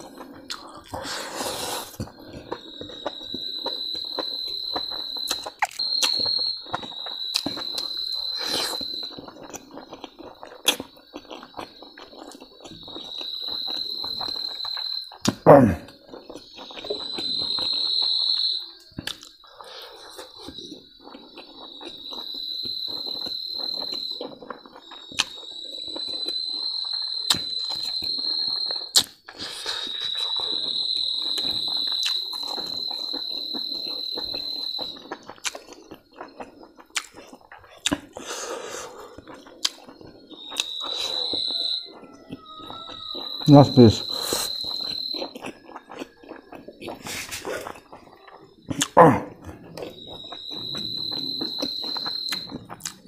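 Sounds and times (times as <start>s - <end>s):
cricket trilling: 0.0s - 53.0s
person chewing noisily: 0.0s - 53.0s.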